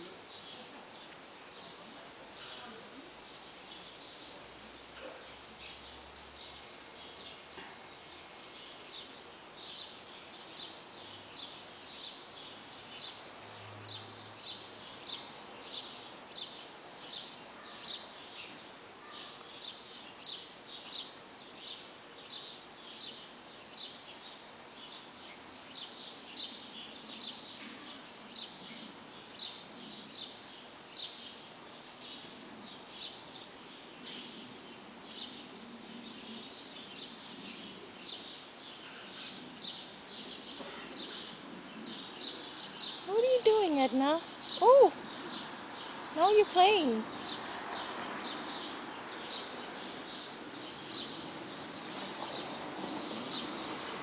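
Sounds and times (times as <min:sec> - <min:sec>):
faint outdoor background noise: 0:00.0 - 0:54.0
bird chirping: 0:02.4 - 0:54.0.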